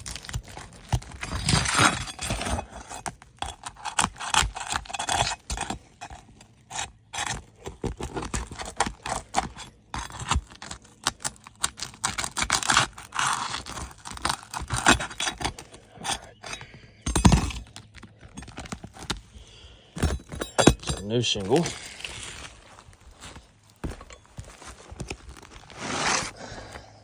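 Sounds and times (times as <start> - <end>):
hand tools scraping shingles: 0.0 - 27.0.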